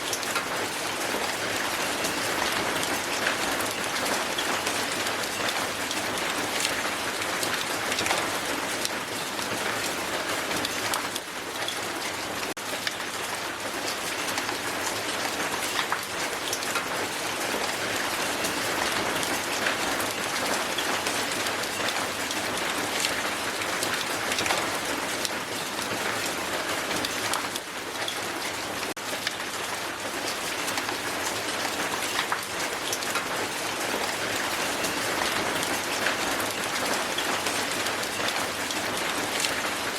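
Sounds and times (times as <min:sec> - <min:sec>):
hail falling on ground: 0:00.0 - 0:39.9.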